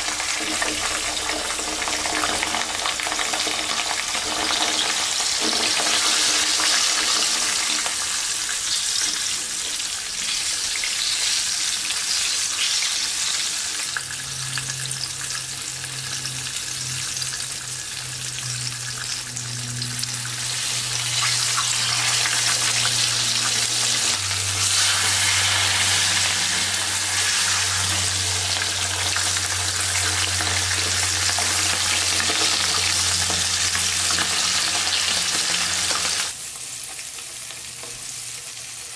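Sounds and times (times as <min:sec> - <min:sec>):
fish frying in hot oil: 0:00.0 - 0:38.9.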